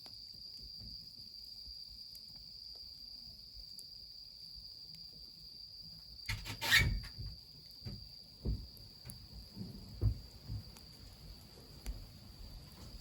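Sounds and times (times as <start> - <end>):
night insects trilling: 0.0 - 13.0
wood fire crackling: 0.0 - 13.0.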